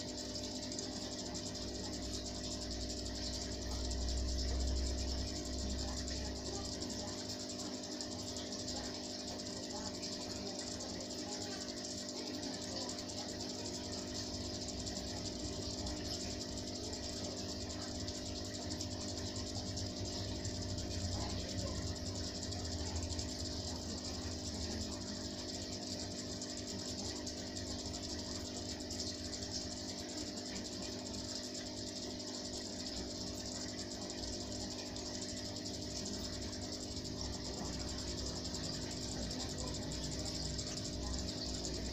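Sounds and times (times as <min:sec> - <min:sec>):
aquarium pumps humming: 0:00.0 - 0:41.9.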